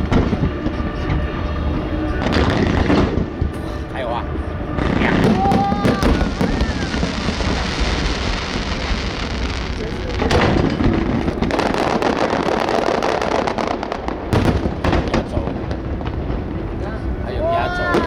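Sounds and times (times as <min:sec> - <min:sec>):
fireworks bursts with crackling: 0:00.0 - 0:17.2.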